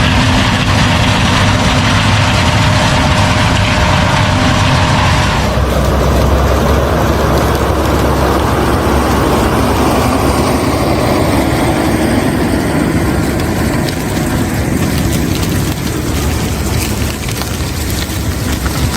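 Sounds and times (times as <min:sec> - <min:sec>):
heavy machine engine running: 0:00.0 - 0:18.9.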